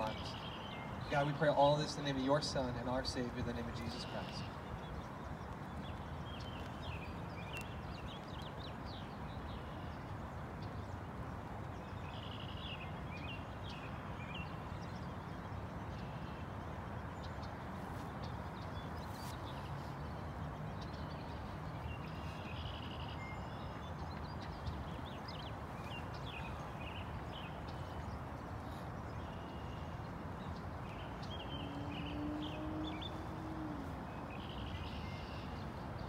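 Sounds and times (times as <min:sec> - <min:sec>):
birds chirping and singing: 0:00.0 - 0:09.9, 0:16.9 - 0:36.0
low outdoor rush: 0:00.0 - 0:36.0.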